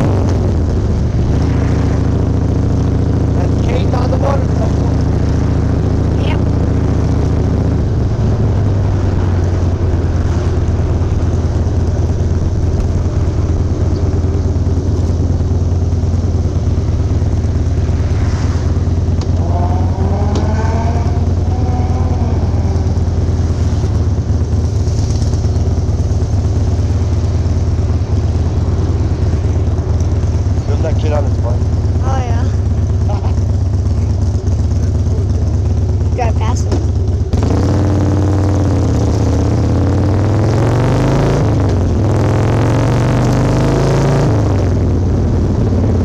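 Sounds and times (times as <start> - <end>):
motorcycle engine running: 0.0 - 46.0
rising whine from traffic: 0.0 - 46.0.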